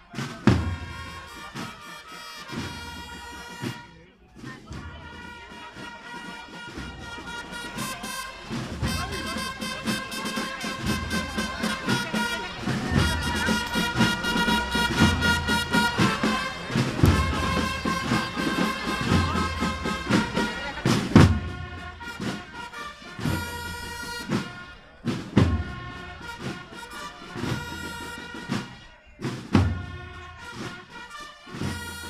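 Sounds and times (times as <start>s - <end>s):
brass band playing a march: 0.0s - 32.0s.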